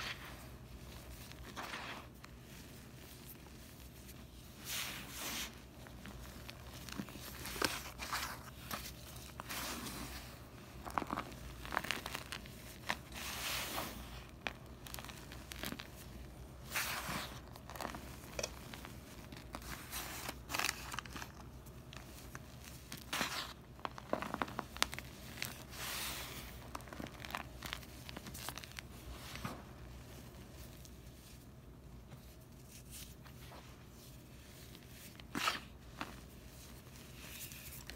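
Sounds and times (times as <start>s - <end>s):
hands crumbling powder: 0.0s - 37.9s.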